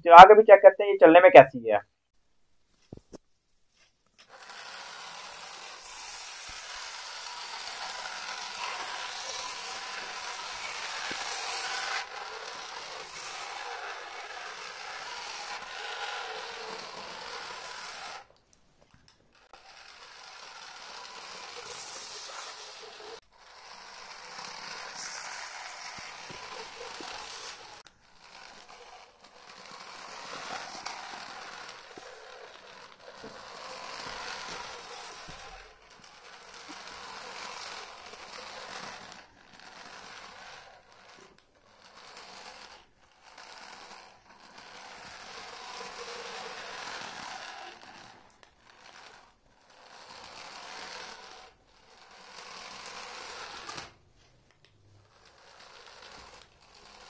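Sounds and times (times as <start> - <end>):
toy car motor whirring: 4.2 - 57.0.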